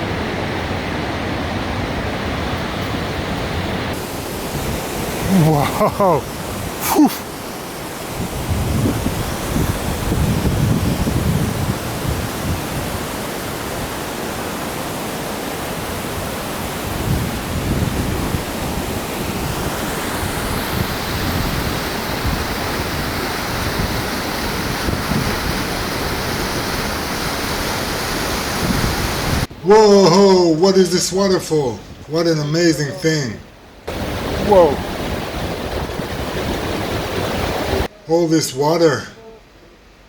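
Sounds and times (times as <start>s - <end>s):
waterfall rushing: 0.0s - 30.5s, 33.9s - 37.9s.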